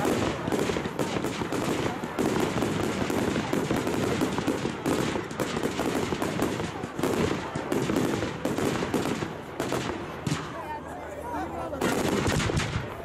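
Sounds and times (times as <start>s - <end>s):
fireworks bangs and crackles: 0.0s - 10.7s, 11.7s - 13.0s.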